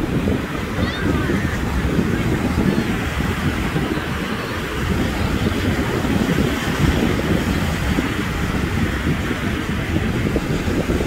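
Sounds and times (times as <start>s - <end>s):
surf breaking: 0.0s - 11.0s
wind buffeting microphone: 0.0s - 11.0s.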